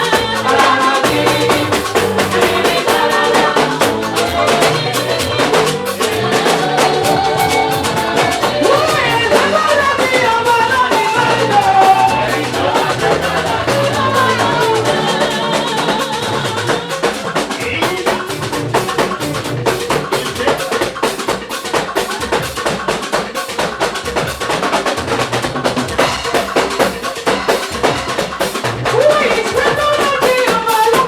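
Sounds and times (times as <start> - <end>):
drum kit driving beat: 0.0 - 31.0
gospel band playing instrumental: 0.0 - 31.0.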